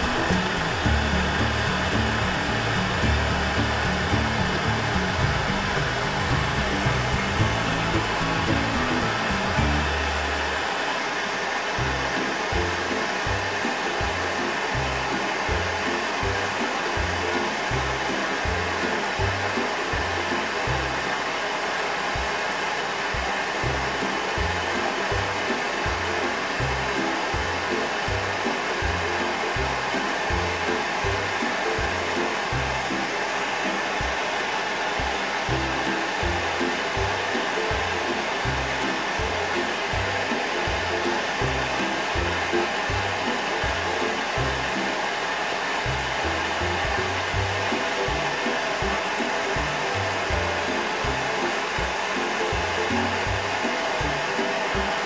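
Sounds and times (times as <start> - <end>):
music with bass beat: 0.0 - 10.7, 11.8 - 21.2, 23.2 - 34.3, 35.0 - 45.1, 45.9 - 55.0
gas torch hissing: 0.0 - 55.0.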